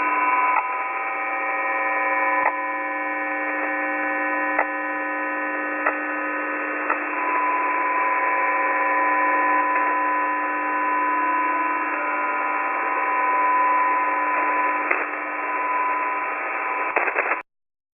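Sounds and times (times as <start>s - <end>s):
radio static hiss: 0.0s - 17.4s.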